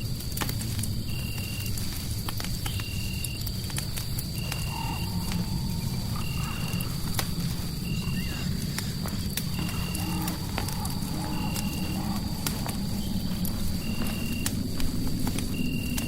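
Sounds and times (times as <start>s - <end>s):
fireplace crackling and popping: 0.0s - 16.0s.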